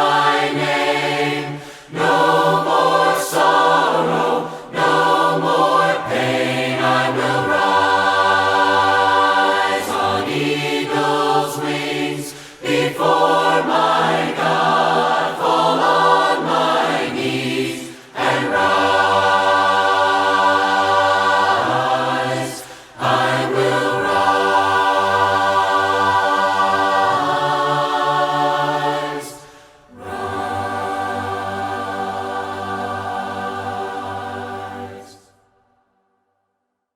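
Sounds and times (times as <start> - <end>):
group singing a hymn a cappella: 0.0 - 35.6.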